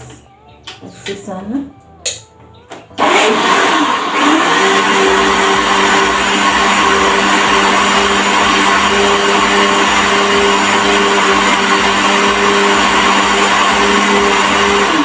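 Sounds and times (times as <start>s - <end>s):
blender whirring: 3.0s - 15.0s.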